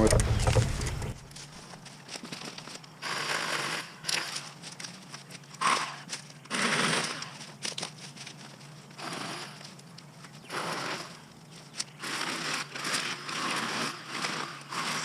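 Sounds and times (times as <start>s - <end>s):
dry brush rustling and crackling: 0.0s - 3.1s, 4.0s - 14.8s.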